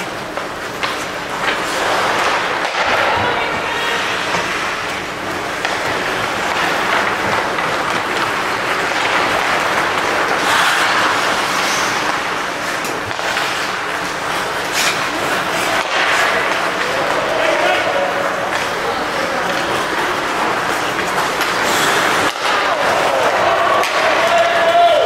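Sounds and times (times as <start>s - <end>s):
crowd and play noise: 0.0s - 25.0s.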